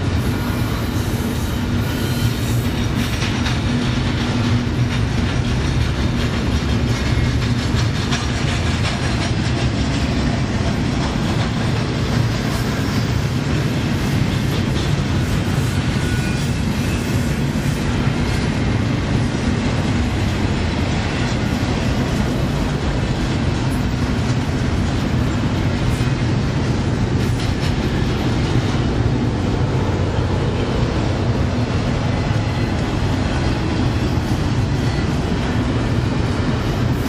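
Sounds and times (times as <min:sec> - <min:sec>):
steel wheels rumbling on rail: 0:00.0 - 0:37.0.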